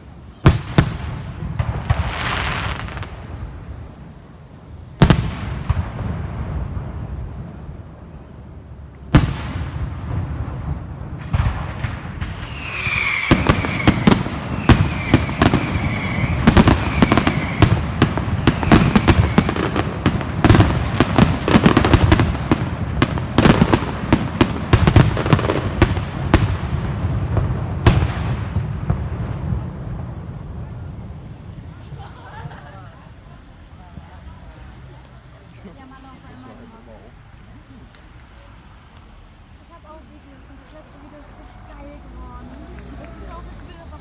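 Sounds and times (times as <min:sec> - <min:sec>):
fireworks bangs: 0:00.0 - 0:44.0.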